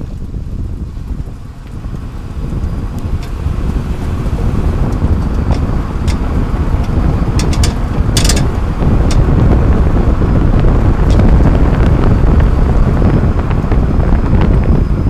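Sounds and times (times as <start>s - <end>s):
road and wind rumble: 0.0s - 15.0s.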